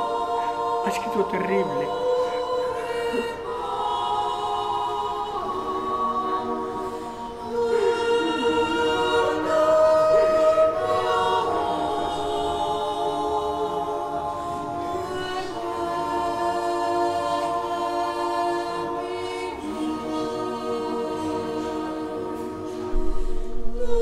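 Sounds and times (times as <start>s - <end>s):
slow choral music: 0.0s - 24.0s.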